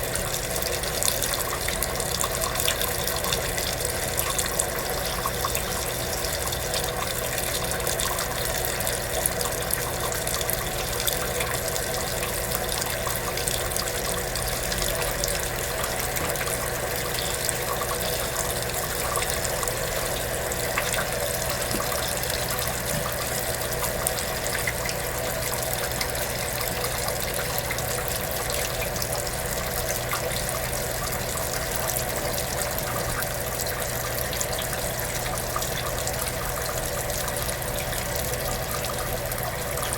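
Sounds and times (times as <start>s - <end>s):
water running into tub: 0.0s - 39.9s.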